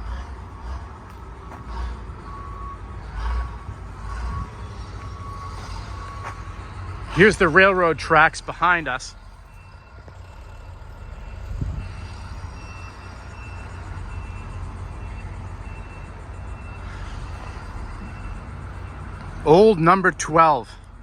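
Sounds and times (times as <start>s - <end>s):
reversing alarm beeps: 0.0s - 21.0s
traffic rumble: 0.0s - 21.0s
wind: 0.0s - 21.0s.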